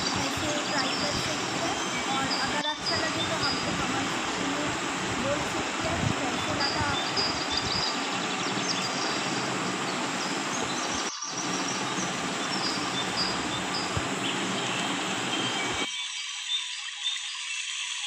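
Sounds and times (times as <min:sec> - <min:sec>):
background hiss: 0:00.0 - 0:15.9.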